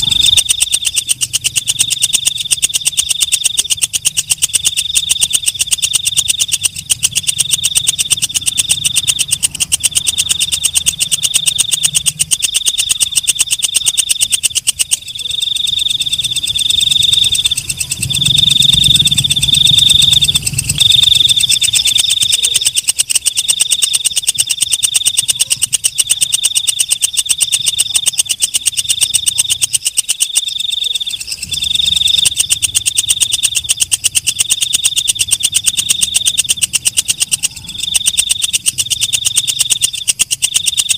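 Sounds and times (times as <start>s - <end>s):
katydid ticking and buzzing: 0.0s - 40.9s.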